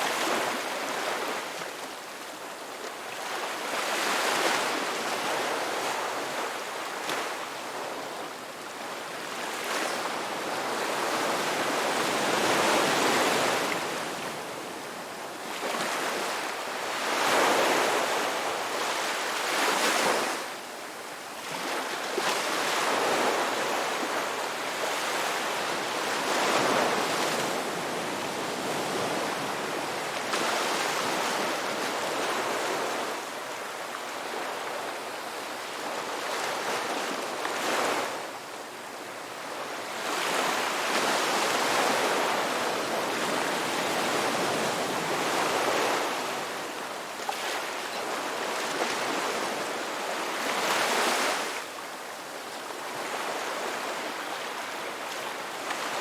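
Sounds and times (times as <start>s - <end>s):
ocean waves breaking on a beach: 0.0s - 56.0s.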